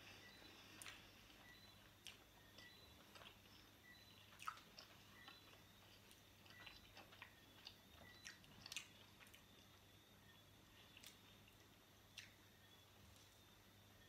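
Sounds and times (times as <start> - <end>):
faint chewing and biting: 0.0 - 13.5.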